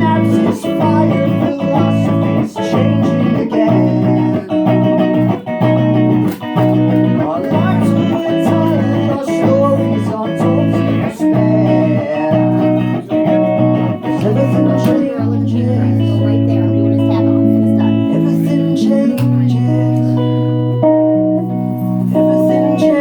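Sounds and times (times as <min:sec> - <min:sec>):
electric guitar strumming chords: 0:00.0 - 0:23.0.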